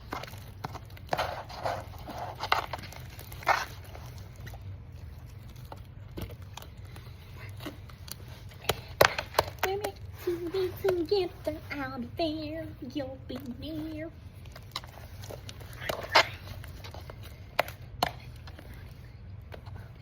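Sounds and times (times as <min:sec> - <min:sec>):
slime squishing and scraping: 0:00.0 - 0:20.0.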